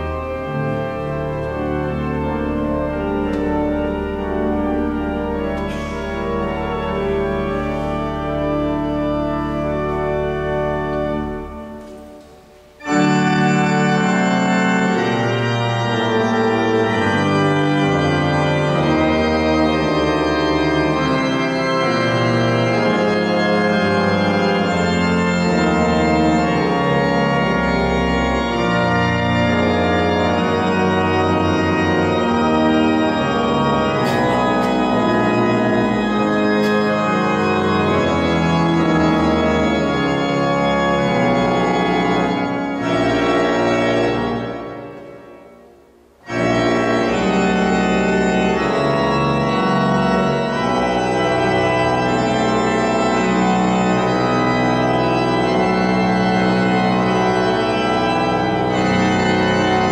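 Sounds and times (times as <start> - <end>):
pipe organ playing: 0.0 - 59.9.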